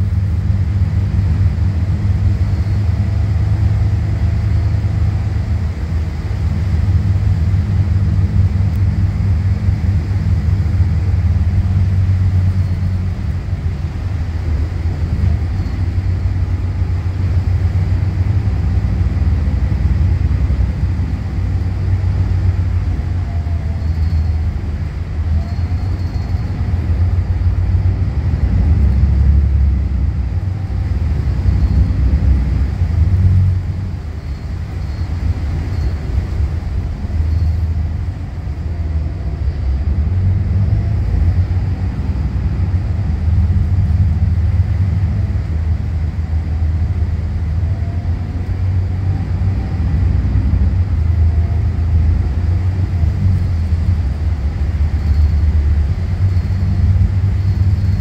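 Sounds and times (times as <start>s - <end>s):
bus engine rumble from inside: 0.0s - 58.0s.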